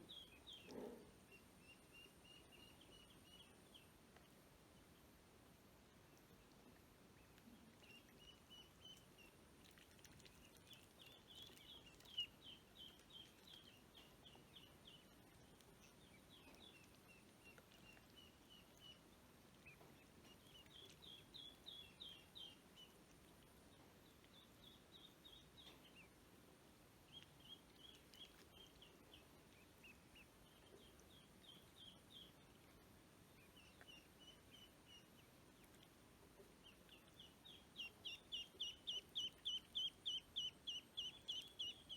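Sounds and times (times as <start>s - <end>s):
ducklings peeping: 6.2s - 26.2s, 27.0s - 41.9s.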